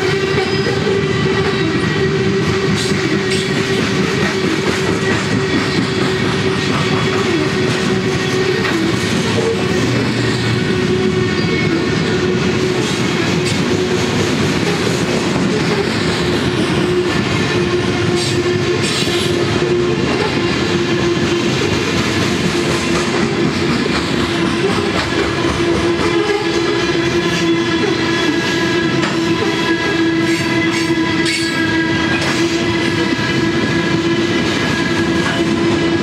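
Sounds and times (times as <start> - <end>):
freight train rumble: 0.0 - 36.0
wheels clacking over rail joints: 0.0 - 36.0.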